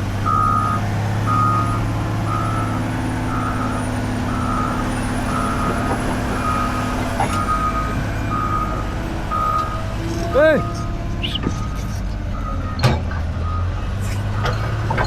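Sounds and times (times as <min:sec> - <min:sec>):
reversing alarm beeping: 0:00.2 - 0:14.8.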